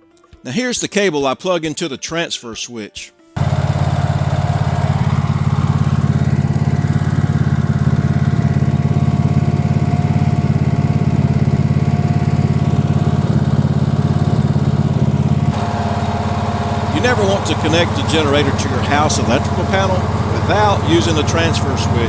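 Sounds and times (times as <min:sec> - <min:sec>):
generator engine running: 0:03.4 - 0:22.0.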